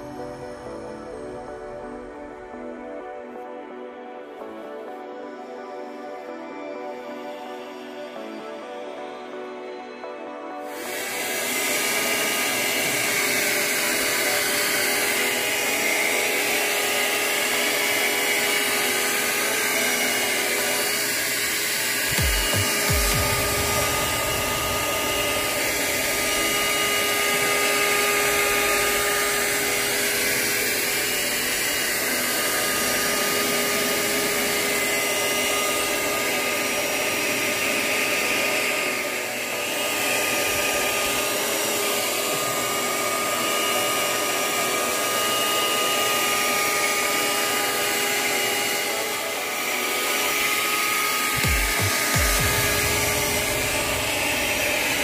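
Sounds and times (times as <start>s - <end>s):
hair dryer blowing: 0.0s - 55.0s.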